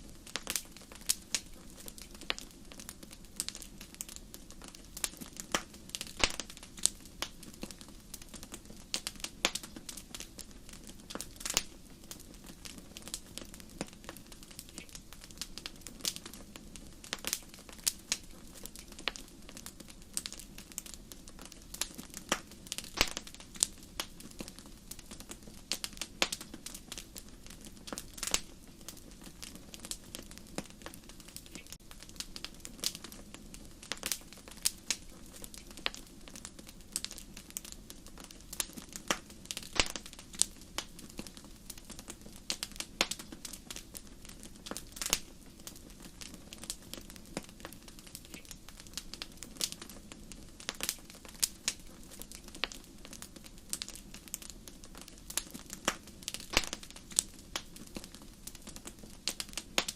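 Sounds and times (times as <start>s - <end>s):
low rumble of flames: 0.0s - 59.9s
wood fire pops and snaps: 0.0s - 59.9s.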